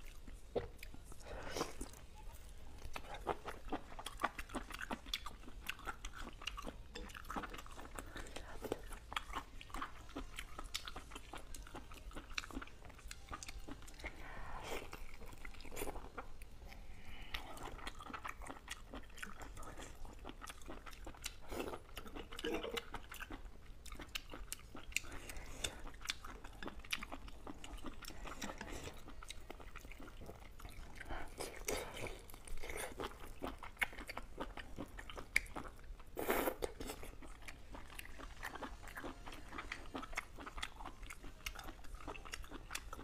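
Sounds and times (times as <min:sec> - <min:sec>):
chewing octopus: 0:00.0 - 0:43.0.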